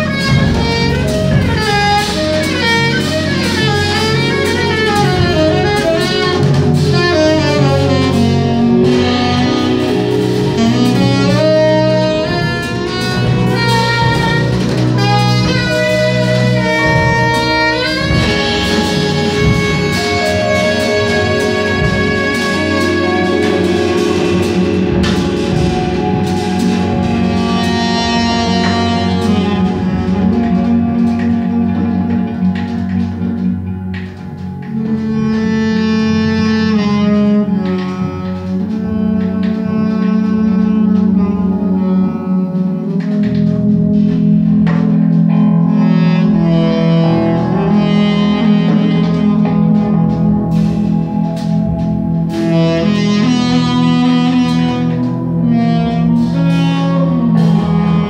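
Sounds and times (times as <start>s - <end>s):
electric bass: 0.0s - 58.0s
keyboards: 0.0s - 58.0s
tenor saxophone melody: 0.0s - 58.0s.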